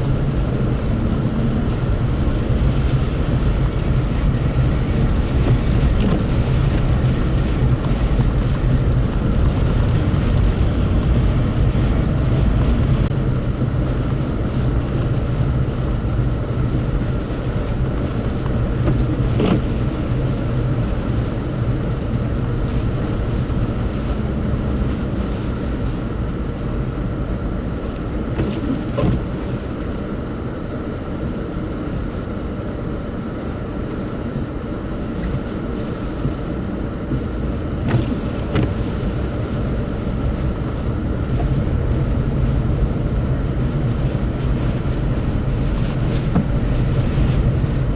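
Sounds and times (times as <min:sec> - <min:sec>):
engine and road rumble: 0:00.0 - 0:47.9.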